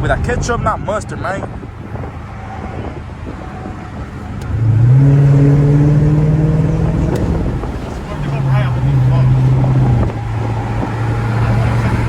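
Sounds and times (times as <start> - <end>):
car engine accelerating: 1.4 - 12.0.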